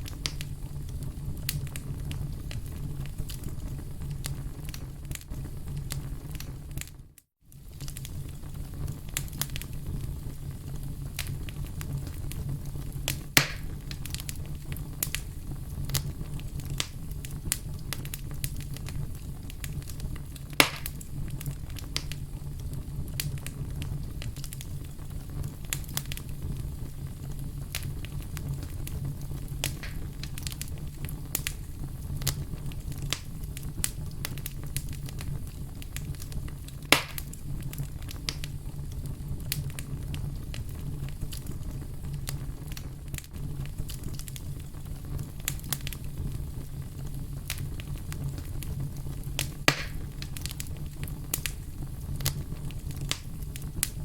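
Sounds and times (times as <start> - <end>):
fire crackling: 0.0 - 54.0
loud fire pops: 0.0 - 54.0
low fire rumble: 0.0 - 54.0.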